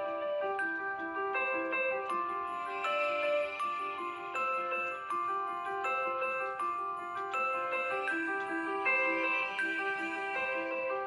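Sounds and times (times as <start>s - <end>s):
phone alarm ringtone melody: 0.7s - 11.0s.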